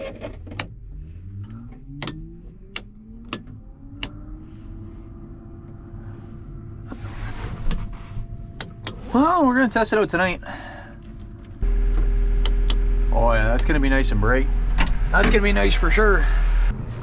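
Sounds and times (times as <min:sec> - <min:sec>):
rising whine: 0:00.8 - 0:10.4, 0:11.0 - 0:16.8.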